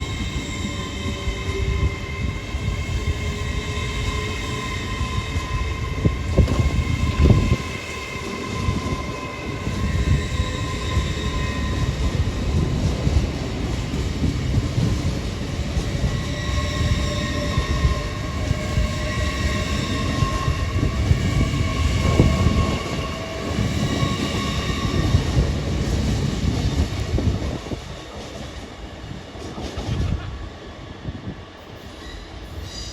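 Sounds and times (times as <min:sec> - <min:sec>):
electric train whining: 0:00.0 - 0:29.1.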